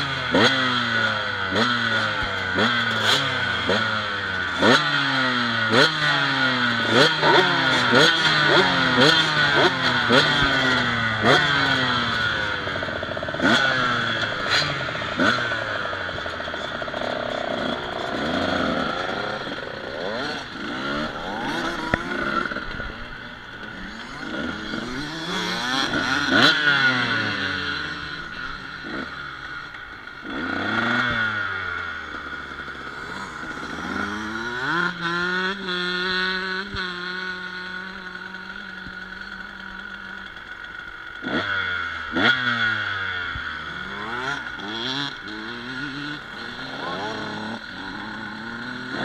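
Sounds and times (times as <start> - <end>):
motorbike engines revving: 0.0 - 49.0.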